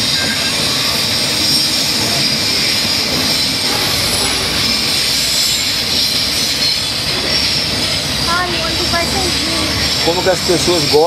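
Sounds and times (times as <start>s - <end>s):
high wheel squeal: 0.0s - 11.0s
train wheels rumbling on rail: 0.0s - 11.0s.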